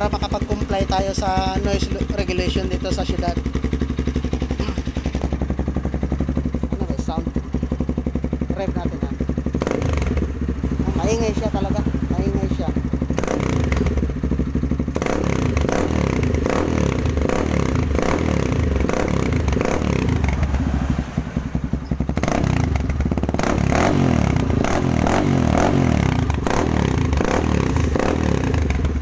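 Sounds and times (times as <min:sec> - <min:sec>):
motorcycle exhaust revving: 0:00.0 - 0:29.0.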